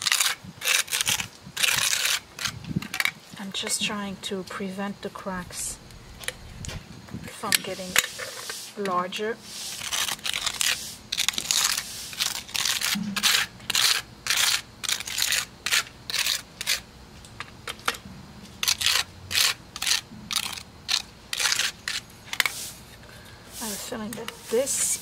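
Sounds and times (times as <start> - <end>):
putty knife scraping asphalt: 3.6 - 16.9, 17.7 - 25.0.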